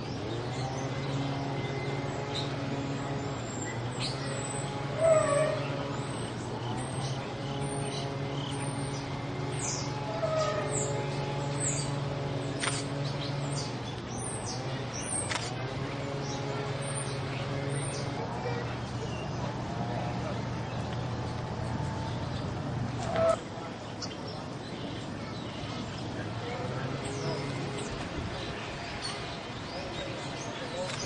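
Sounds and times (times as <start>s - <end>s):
small birds chirping: 0.0s - 31.0s
steady low hum: 0.0s - 31.0s.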